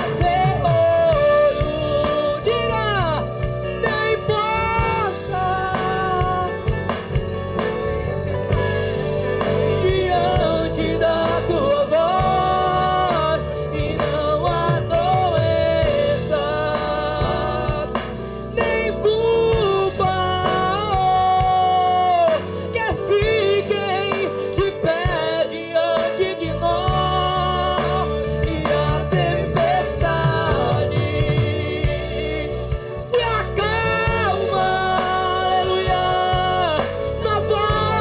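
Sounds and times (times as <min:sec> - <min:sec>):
band accompaniment: 0:00.0 - 0:38.0
person singing: 0:00.0 - 0:38.0.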